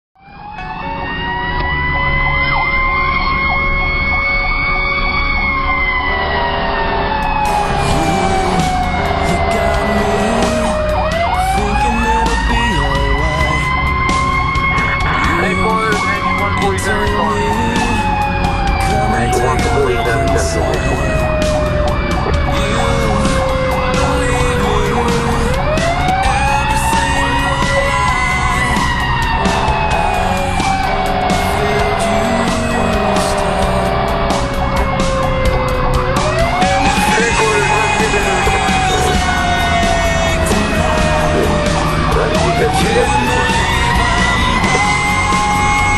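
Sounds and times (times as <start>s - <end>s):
fast cycling siren: 0.2s - 45.9s
fire truck siren wailing: 0.2s - 45.9s
truck engine rumbling: 0.3s - 45.9s.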